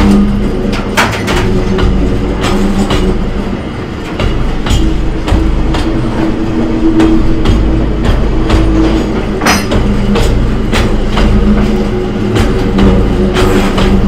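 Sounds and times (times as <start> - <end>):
low steady rumble of wagons: 0.0 - 14.0
wheels clacking over rail joints: 0.0 - 14.0.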